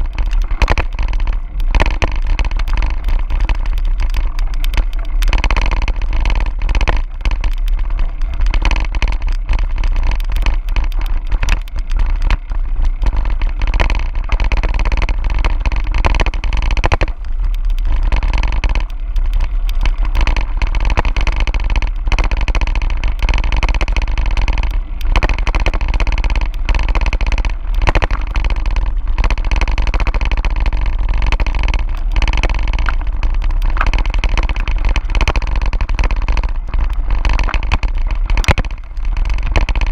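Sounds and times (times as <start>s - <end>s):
bike knocking and rattling: 0.0s - 39.9s
bike tyres crunching gravel: 0.0s - 39.9s.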